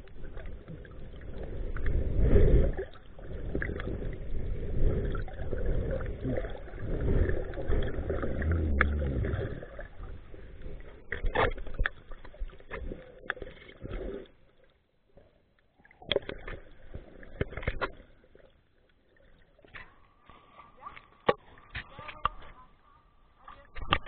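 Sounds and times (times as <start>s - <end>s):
underwater rush of water: 0.0s - 14.7s, 15.8s - 22.6s.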